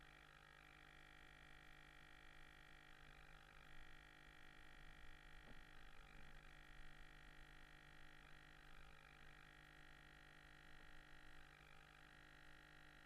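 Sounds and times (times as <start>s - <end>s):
faint electrical hum and whine: 0.0s - 13.0s.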